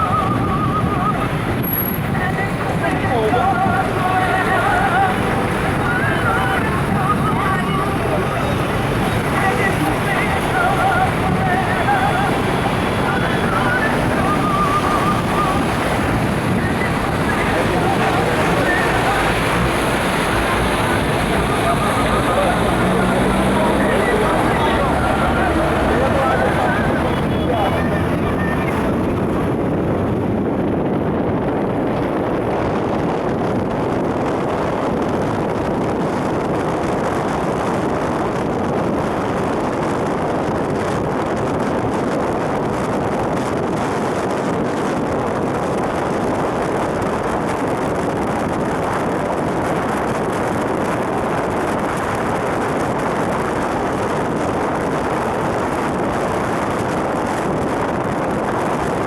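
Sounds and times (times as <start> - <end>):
vehicles driving through floodwater: 0.0 - 59.0
wind buffeting microphone: 0.0 - 59.0.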